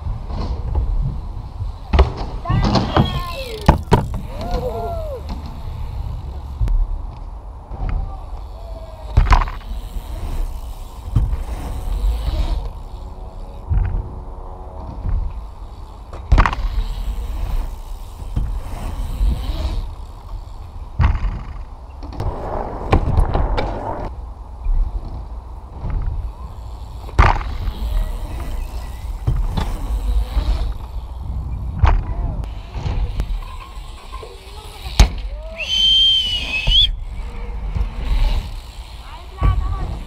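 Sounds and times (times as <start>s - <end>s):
wheels rolling on ramps: 0.0s - 40.0s.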